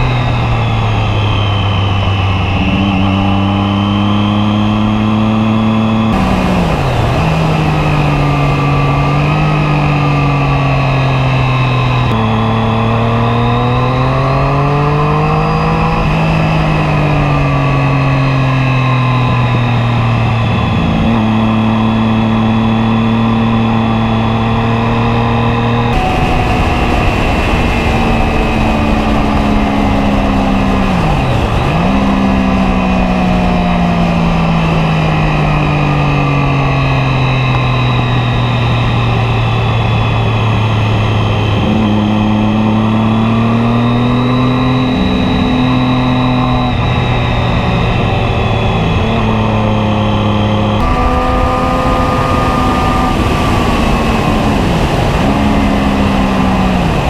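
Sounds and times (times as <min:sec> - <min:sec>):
race car engine revving: 0:00.0 - 0:57.0
road noise: 0:00.0 - 0:57.0.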